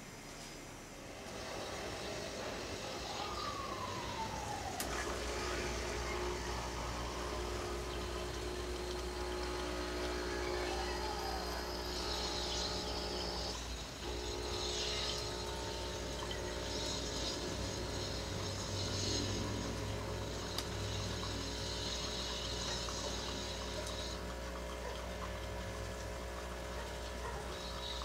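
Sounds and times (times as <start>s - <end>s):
coffee machine pump humming: 0.0s - 28.0s
coffee hissing from spout: 1.0s - 28.0s.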